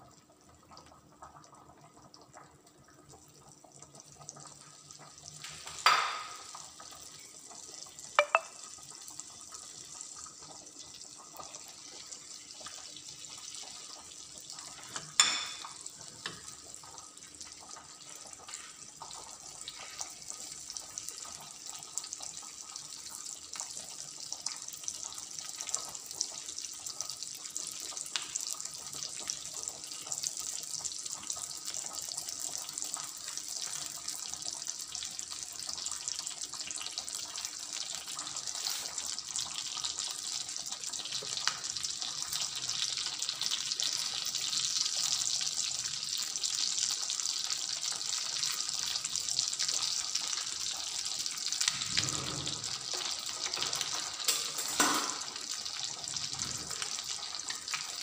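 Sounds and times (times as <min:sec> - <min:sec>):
meat sizzling in a frying pan: 0:03.7 - 0:08.1, 0:08.9 - 0:58.0.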